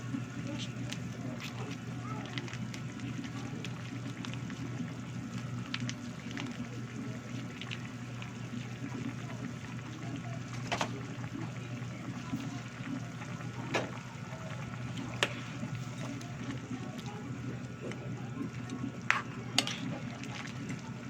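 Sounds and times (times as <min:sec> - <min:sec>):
sauce simmering in a pan: 0:00.0 - 0:21.0.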